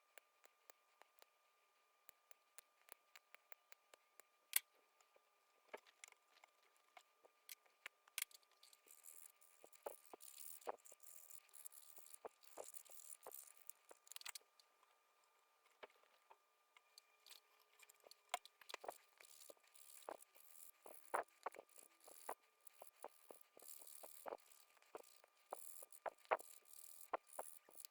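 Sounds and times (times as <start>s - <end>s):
small clicks and taps: 0.0s - 1.4s, 2.0s - 15.0s, 15.6s - 27.9s.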